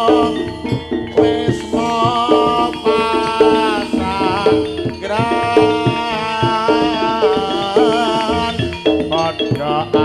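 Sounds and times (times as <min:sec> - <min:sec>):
drum beats: 0:00.0 - 0:10.0
gamelan metallophones: 0:00.0 - 0:10.0
person singing wavering melody: 0:00.0 - 0:10.0.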